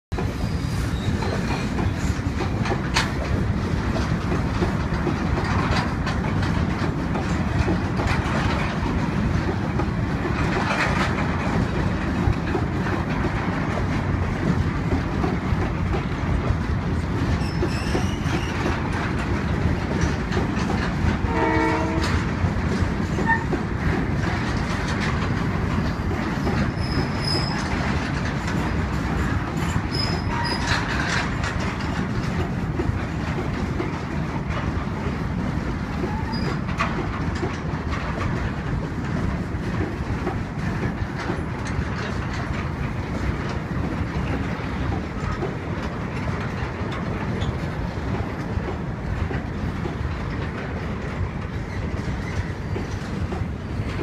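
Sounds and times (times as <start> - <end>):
freight train wheels rumbling: 0.1 - 54.0
rail joint clicks: 0.1 - 54.0.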